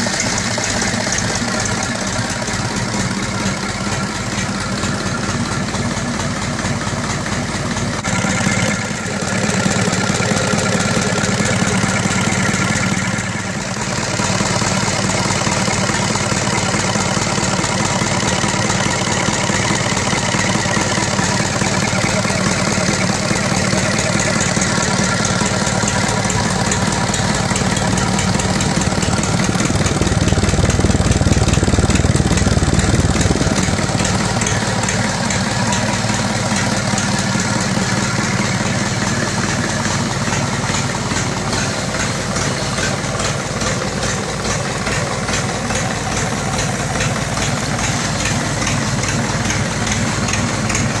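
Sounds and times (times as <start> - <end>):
diesel engine idling and revving: 0.0 - 51.0.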